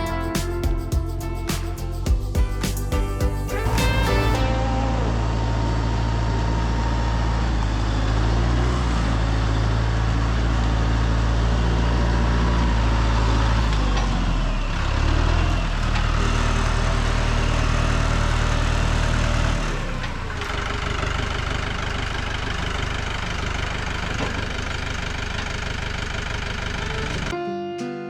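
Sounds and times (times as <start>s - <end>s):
vehicle engine running: 0.0s - 27.3s.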